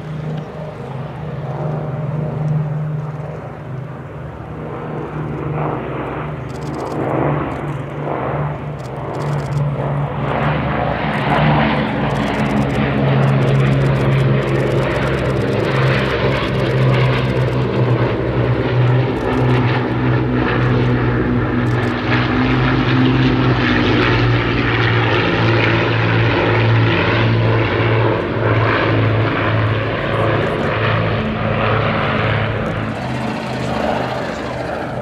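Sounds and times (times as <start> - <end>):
propeller plane engines in flight: 0.0 - 35.0.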